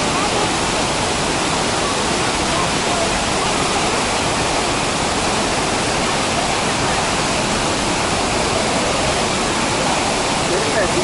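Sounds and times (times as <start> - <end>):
water rushing down rocky cascade: 0.0 - 11.0.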